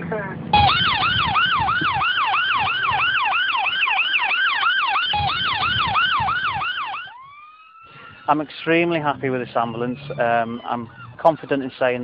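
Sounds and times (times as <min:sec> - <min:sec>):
ambulance siren yelping: 0:00.5 - 0:08.4, 0:09.2 - 0:11.4.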